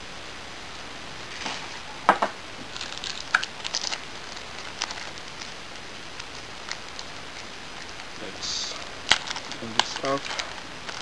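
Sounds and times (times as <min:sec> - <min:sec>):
plastic packaging crinkling: 0:01.3 - 0:11.0.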